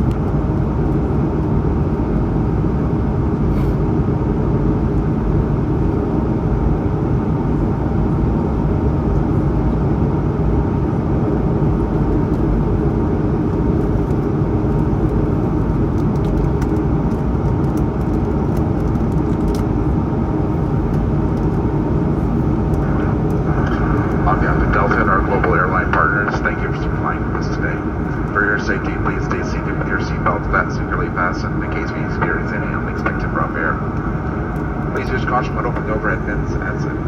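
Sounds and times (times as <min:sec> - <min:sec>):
jet engines droning: 0:00.0 - 0:37.0.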